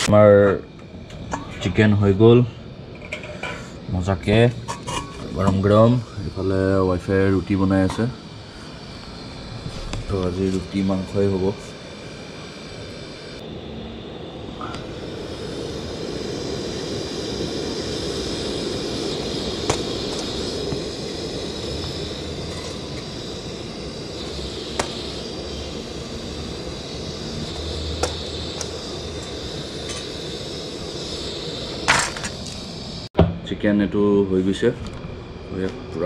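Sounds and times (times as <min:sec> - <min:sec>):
gas burner hissing: 0:00.0 - 0:36.0.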